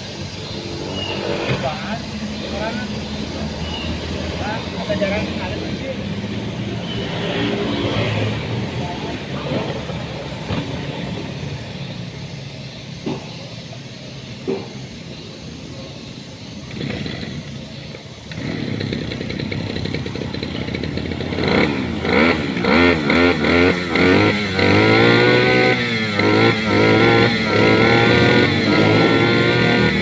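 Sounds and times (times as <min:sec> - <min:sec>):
engine revving: 0:00.0 - 0:30.0.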